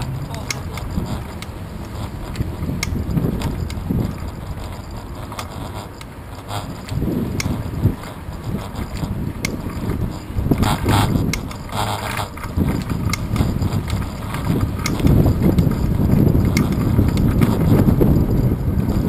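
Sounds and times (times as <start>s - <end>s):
bike mount rattling and clicking: 0.0s - 19.0s
wind buffeting microphone: 0.0s - 19.0s.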